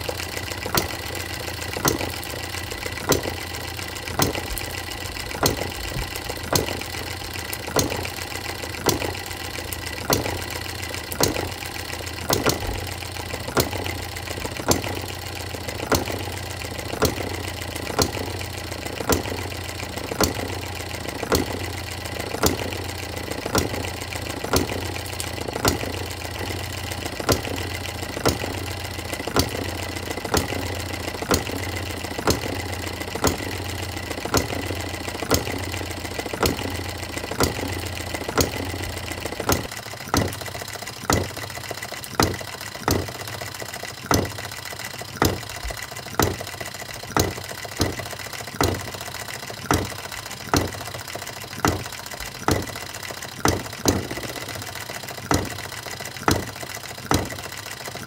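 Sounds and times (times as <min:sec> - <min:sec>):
mechanical clicks: 0:00.0 - 0:58.0.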